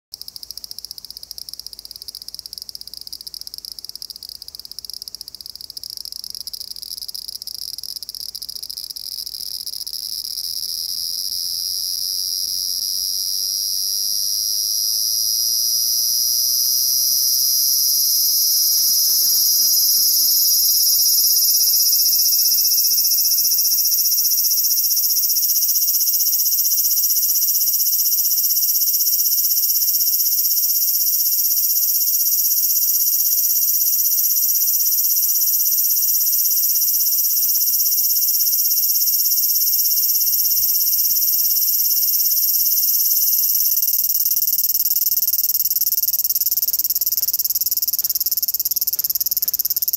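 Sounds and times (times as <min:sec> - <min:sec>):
cicada buzzing: 0:00.2 - 0:49.9.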